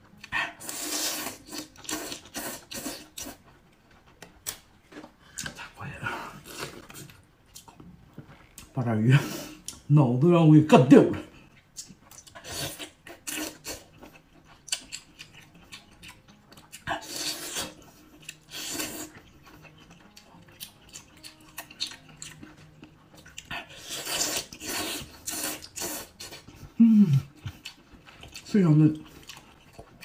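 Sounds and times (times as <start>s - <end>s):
person chewing wetly: 0.1s - 5.7s, 11.4s - 30.0s.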